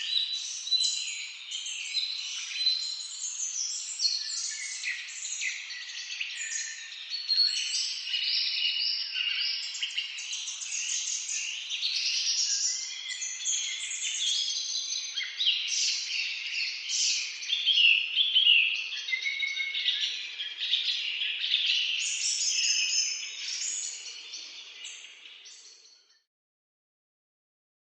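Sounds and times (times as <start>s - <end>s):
chorus of songbirds singing: 0.0s - 26.3s.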